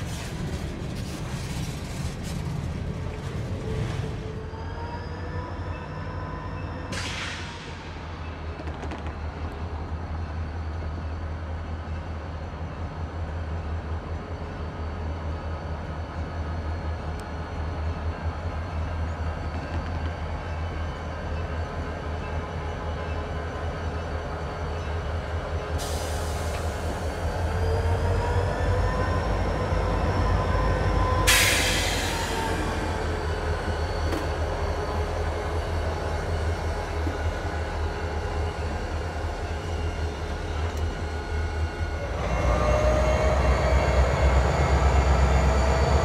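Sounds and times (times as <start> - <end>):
diesel locomotive engine rumble: 0.0 - 46.0
rolling freight cars: 0.0 - 46.0.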